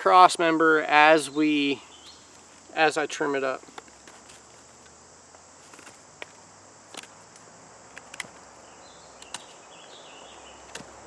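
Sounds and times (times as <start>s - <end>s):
insects hissing: 0.0s - 11.0s.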